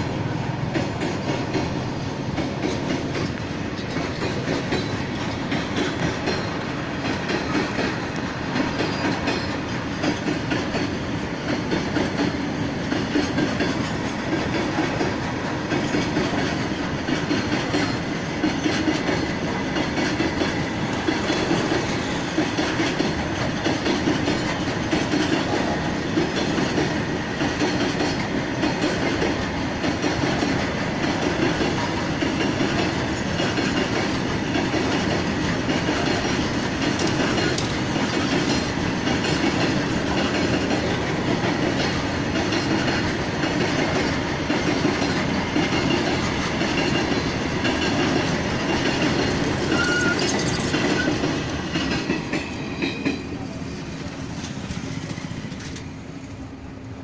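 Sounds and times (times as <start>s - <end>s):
wheels clattering on rails: 0.0s - 56.5s
freight train rumbling past: 0.0s - 57.0s.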